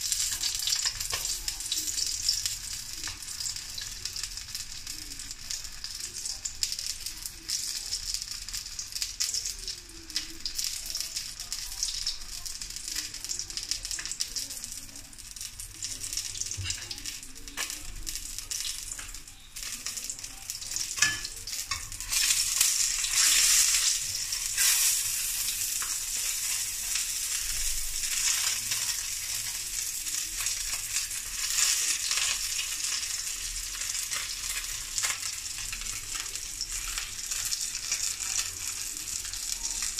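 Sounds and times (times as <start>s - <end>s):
fish sizzling in oil: 0.0s - 39.9s.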